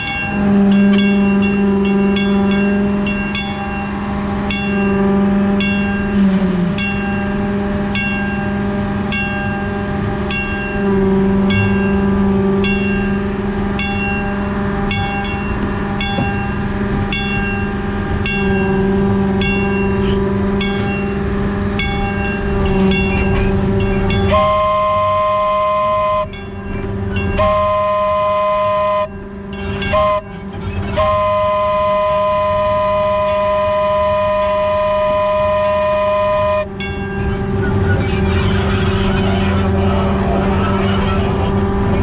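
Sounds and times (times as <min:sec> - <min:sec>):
locomotive bell ringing: 0:00.0 - 0:41.9
locomotive engine running: 0:00.0 - 0:42.0
two-tone train horn blasts: 0:00.0 - 0:42.0.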